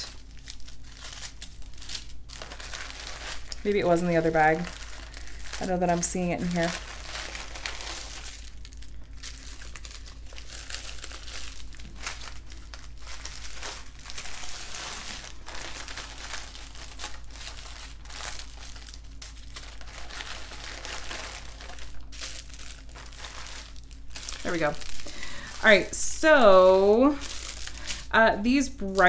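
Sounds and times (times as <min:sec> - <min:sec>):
plastic baggies crinkling: 0:00.0 - 0:29.0.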